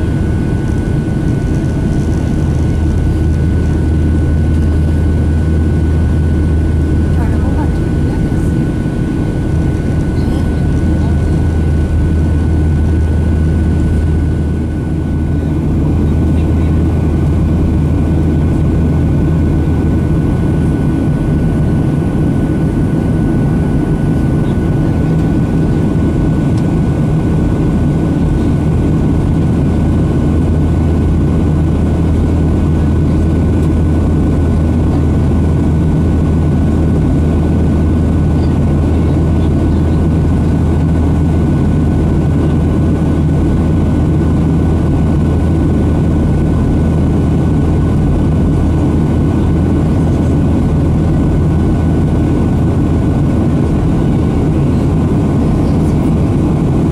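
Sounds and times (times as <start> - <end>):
airplane cabin drone: 0.0 - 56.9
thin steady whine: 0.0 - 56.9.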